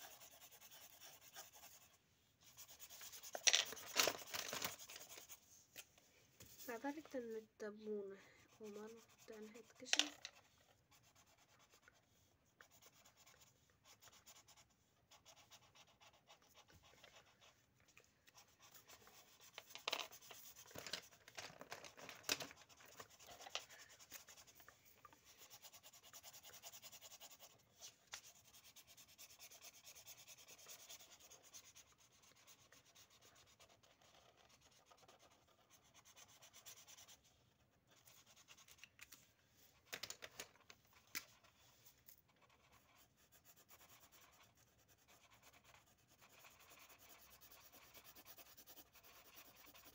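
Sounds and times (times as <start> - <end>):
felt-tip pens scratching paper: 0.0 - 5.4, 6.5 - 17.6, 18.3 - 39.2, 39.8 - 49.9.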